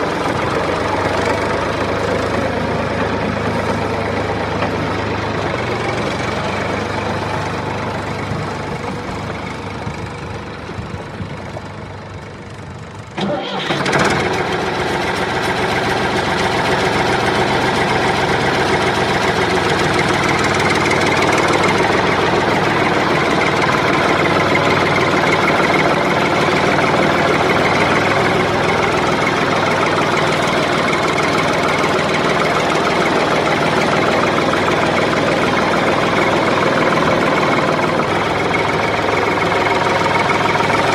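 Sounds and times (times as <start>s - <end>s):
engine idling with fast knocking: 0.0s - 40.9s.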